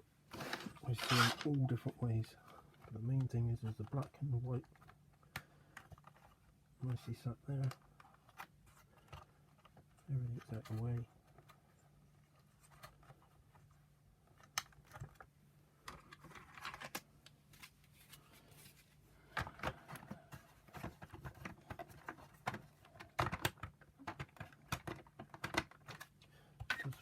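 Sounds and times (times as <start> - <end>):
plastic parts clicking and knocking: 0.3 - 17.4, 19.2 - 27.0.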